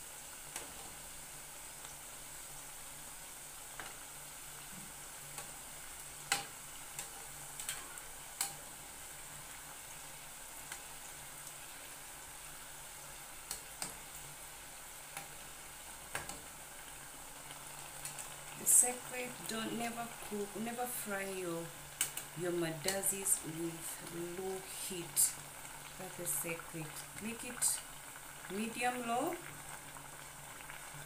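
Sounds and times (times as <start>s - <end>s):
dough sizzling in hot oil: 0.0s - 31.0s.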